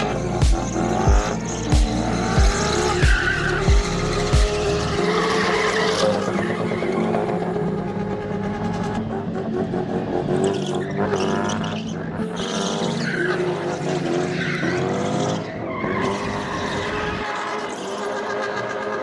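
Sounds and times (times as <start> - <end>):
tyres skidding and squealing: 0.0 - 7.8, 10.2 - 19.0.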